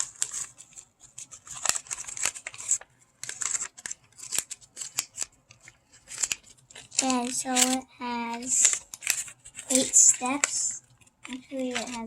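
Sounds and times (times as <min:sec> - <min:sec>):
paper and plastic packaging rustling: 0:00.0 - 0:12.0.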